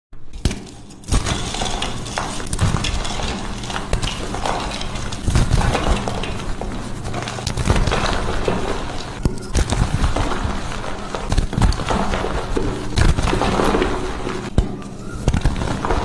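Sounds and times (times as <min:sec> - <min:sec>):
chalk block crunching: 0:00.3 - 0:16.0.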